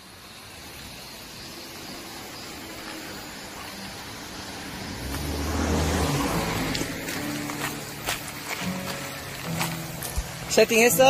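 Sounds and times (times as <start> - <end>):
car engine running: 1.8 - 10.9.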